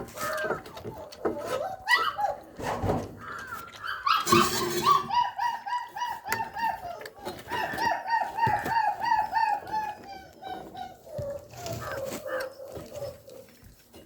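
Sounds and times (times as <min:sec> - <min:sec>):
puppies whining and yelping: 0:00.0 - 0:02.9, 0:03.6 - 0:13.9.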